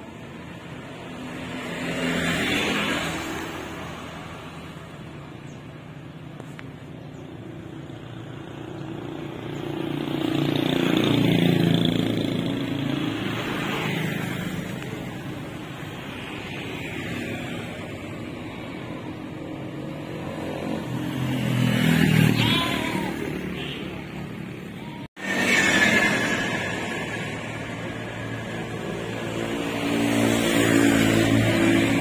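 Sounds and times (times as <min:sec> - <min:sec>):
vehicles passing on a road: 0:00.0 - 0:32.0.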